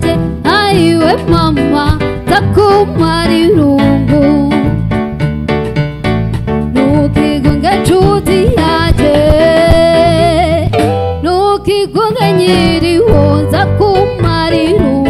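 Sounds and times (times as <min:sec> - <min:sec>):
woman singing: 0:00.0 - 0:04.8, 0:06.7 - 0:15.0
live band playing: 0:00.0 - 0:15.0.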